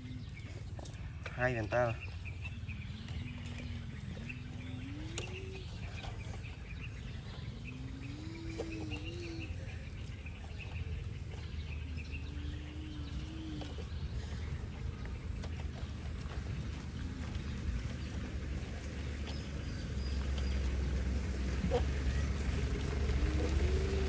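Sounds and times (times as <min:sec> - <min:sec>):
outdoor background noise: 0:00.0 - 0:24.0
wavering low calls: 0:00.0 - 0:24.0.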